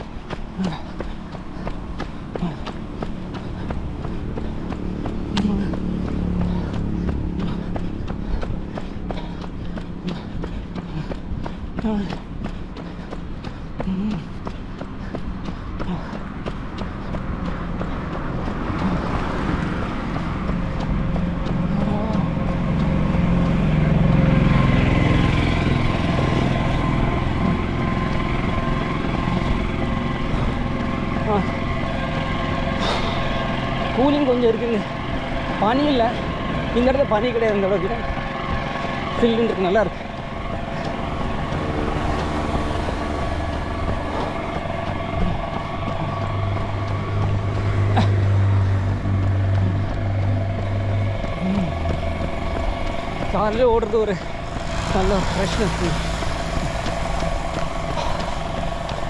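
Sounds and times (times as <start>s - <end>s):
road traffic engines: 0.0s - 59.0s.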